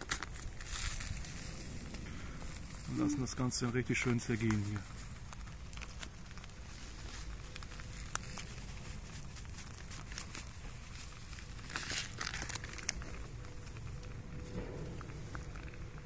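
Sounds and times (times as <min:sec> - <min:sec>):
steady low rumble: 0:00.1 - 0:16.0
plastic bag crinkling: 0:02.4 - 0:16.0.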